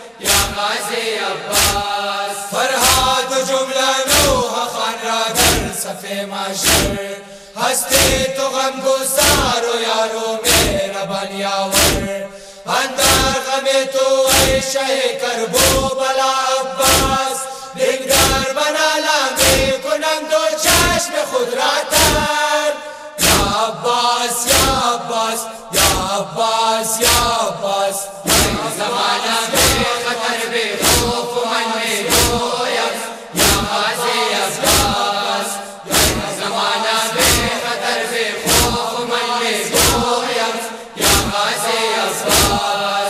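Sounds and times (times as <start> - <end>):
rhythmic chest-beating slaps: 0.0 - 6.0, 6.6 - 8.4, 9.1 - 9.7, 10.4 - 11.0, 11.6 - 20.0, 20.6 - 21.2, 21.8 - 43.0
men chanting in unison: 0.0 - 43.0.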